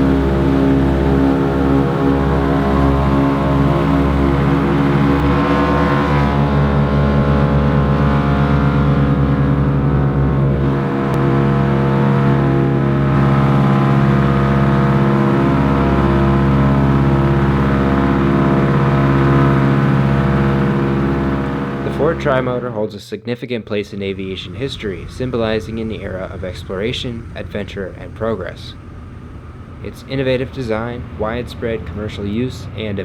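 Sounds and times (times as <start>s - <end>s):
aircraft engines from inside cabin: 0.0s - 22.8s, 24.1s - 33.0s.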